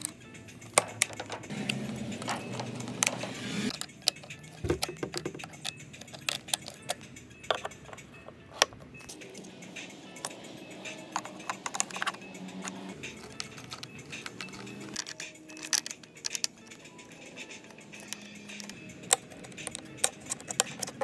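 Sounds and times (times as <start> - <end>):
plastic parts and screws clinking: 0.0 - 1.5, 2.2 - 9.5, 11.0 - 21.0.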